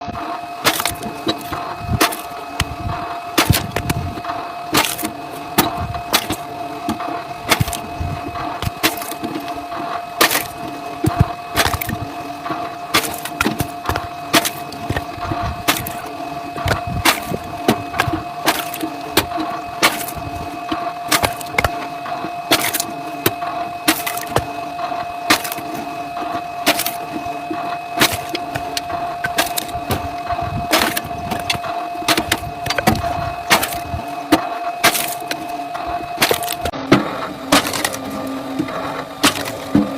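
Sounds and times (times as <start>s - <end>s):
machine hum: 0.0s - 39.9s
wood cracking apart: 0.6s - 4.1s, 4.7s - 9.6s, 10.2s - 12.1s, 12.9s - 21.9s, 22.5s - 36.8s, 37.5s - 39.9s.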